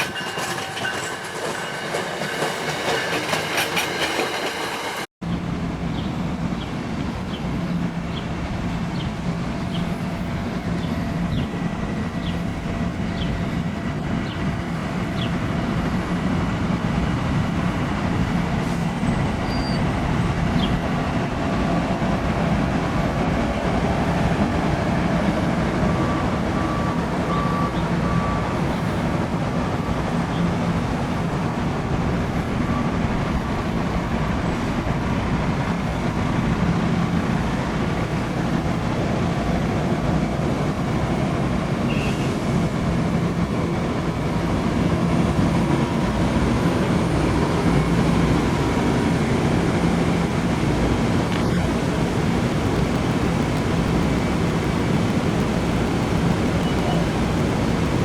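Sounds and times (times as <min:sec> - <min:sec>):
vehicle rumble: 0:05.2 - 0:58.0.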